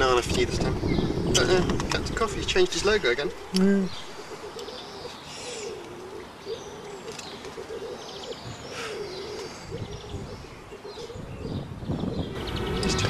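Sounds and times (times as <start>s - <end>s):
small birds chirping: 0.0s - 13.0s
pigeons cooing: 2.5s - 13.0s.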